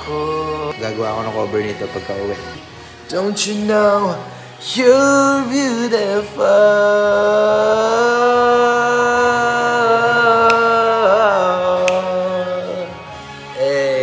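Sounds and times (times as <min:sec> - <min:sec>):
man singing long held notes: 0:00.0 - 0:14.0.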